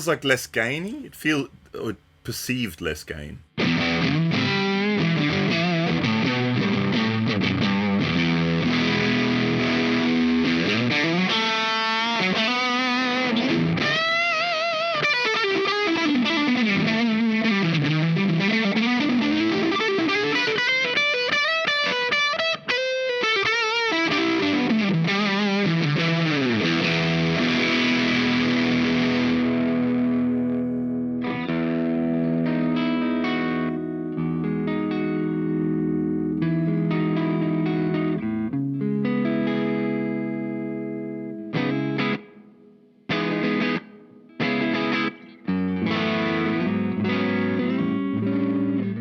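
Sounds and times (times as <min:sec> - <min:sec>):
distorted electric guitar: 0:03.5 - 0:42.4, 0:43.1 - 0:49.0.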